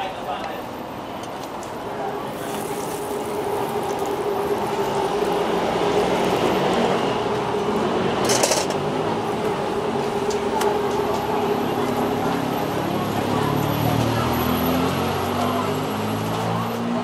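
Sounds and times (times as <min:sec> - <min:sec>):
street traffic hum: 0:00.0 - 0:17.0
motorbike passing: 0:01.9 - 0:17.0.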